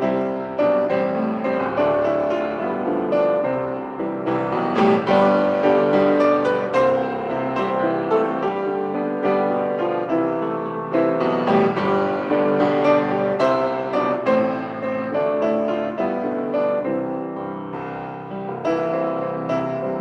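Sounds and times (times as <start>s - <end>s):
gentle piano piece: 0.0s - 20.0s.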